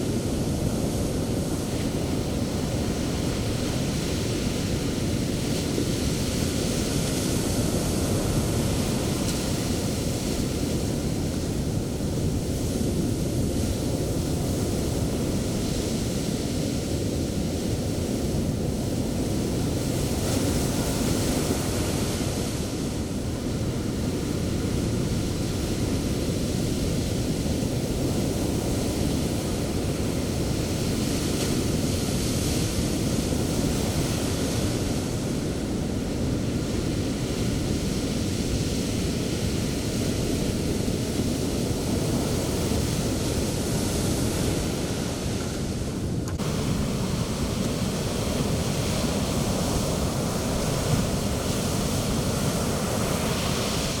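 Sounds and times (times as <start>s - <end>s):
surf breaking on beach: 0.0s - 54.0s.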